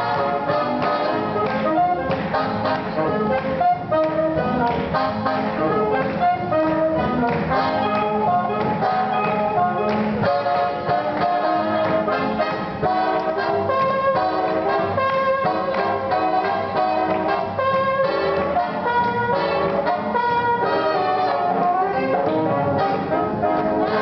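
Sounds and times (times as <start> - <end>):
big band playing swing music: 0.0 - 24.0
trumpets and trombones: 0.0 - 24.0.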